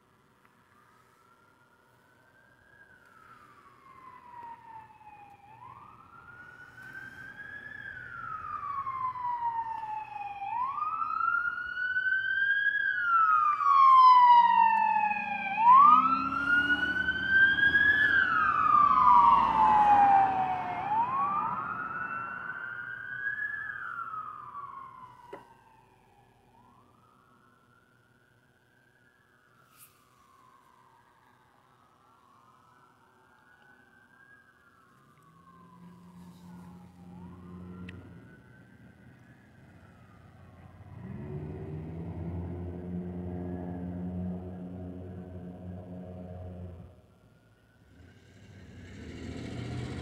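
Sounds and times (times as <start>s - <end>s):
vehicle rumble: 0.0s - 26.8s, 32.0s - 50.0s
emergency siren wailing: 0.3s - 50.0s.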